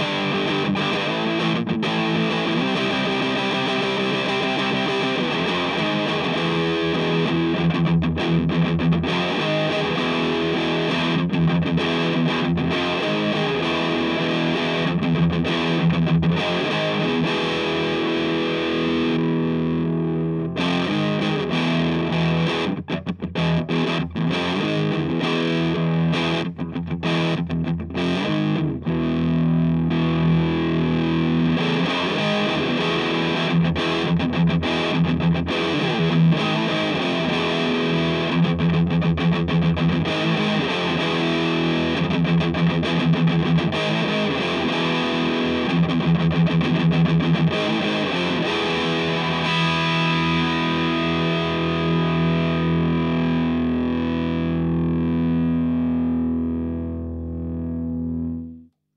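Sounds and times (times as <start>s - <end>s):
distorted electric guitar riffing: 0.0s - 58.7s.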